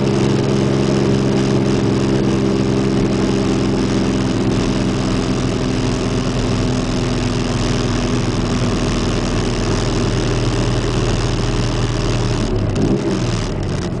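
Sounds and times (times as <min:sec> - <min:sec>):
car engine from inside cabin: 0:00.0 - 0:14.0.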